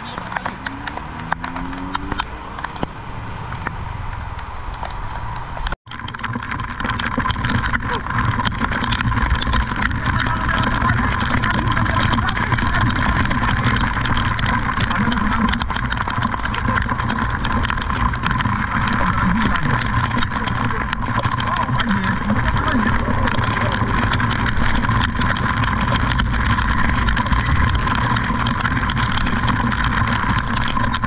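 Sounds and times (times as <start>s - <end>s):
car engines idling in traffic: 0.0s - 8.0s, 8.6s - 31.0s
rain patter: 0.0s - 31.0s.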